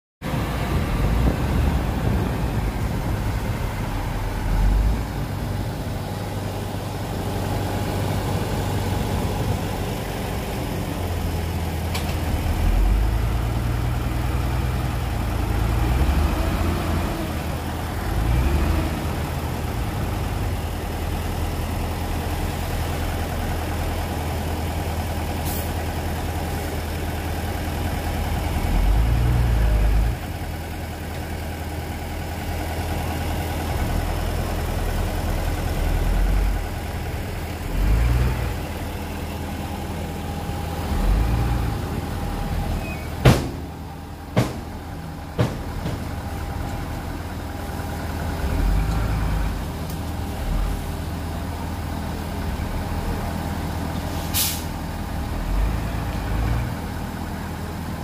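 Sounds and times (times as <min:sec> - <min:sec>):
heavy diesel engines revving: 0:00.2 - 0:58.0.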